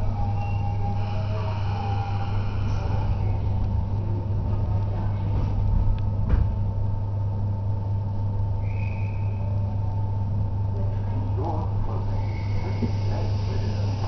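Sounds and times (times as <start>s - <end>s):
train hum and rumble: 0.0s - 14.0s.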